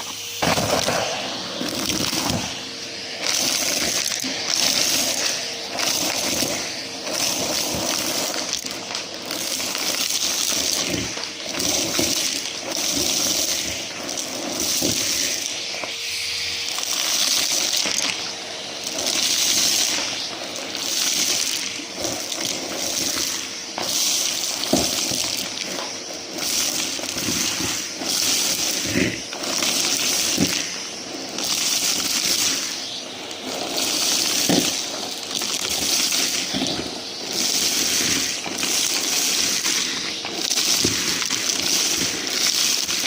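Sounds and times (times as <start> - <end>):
vacuum cleaner running: 0.0 - 43.0
debris clicking in vacuum: 0.4 - 16.0, 16.7 - 43.0.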